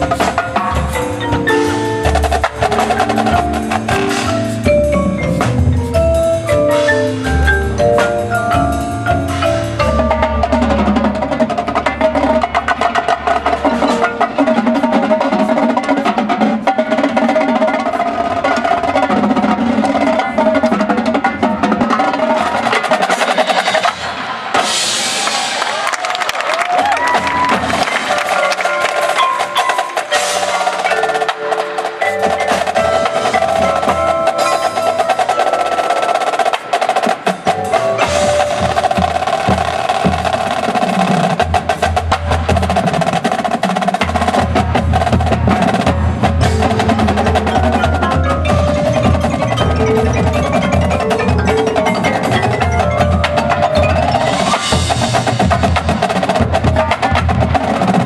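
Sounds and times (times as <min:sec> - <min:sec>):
marimbas and vibraphones ringing: 0:00.0 - 0:25.1, 0:27.5 - 0:58.0
marching drums playing: 0:00.0 - 0:58.0.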